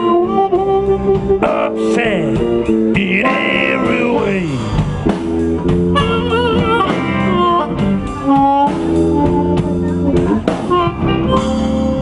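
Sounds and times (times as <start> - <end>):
slow blues guitar and drums: 0.0 - 12.0.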